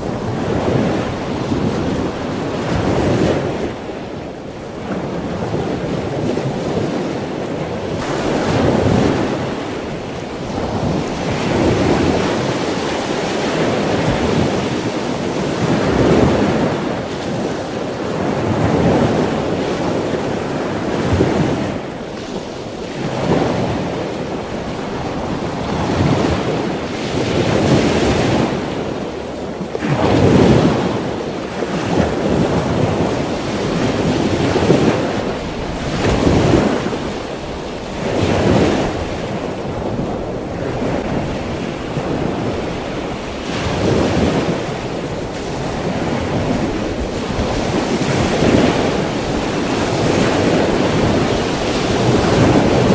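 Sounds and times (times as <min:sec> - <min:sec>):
ocean waves washing in: 0:00.0 - 0:52.9.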